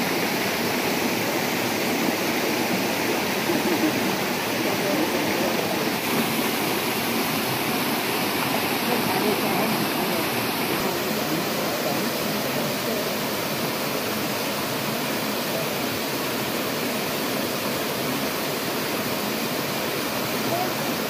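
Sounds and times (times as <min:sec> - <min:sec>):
water cascading over rocks: 0:00.0 - 0:21.0.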